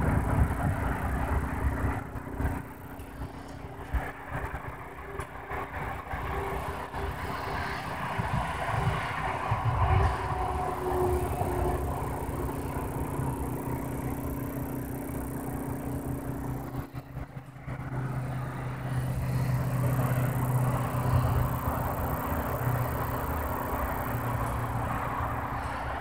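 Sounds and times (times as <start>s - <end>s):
pulse motor humming: 0.0s - 26.0s.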